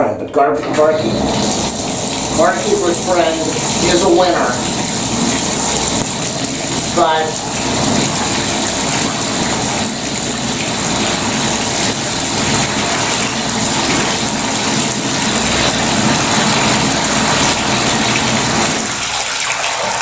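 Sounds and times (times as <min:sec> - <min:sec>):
tap water running into bathtub: 0:00.6 - 0:20.0.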